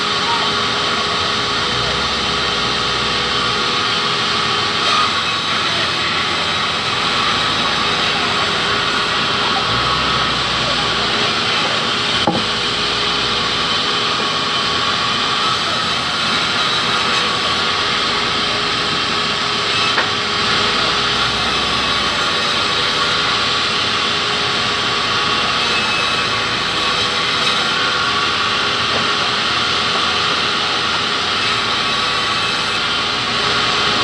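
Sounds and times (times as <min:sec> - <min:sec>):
band saw cutting wood: 0:00.0 - 0:34.0.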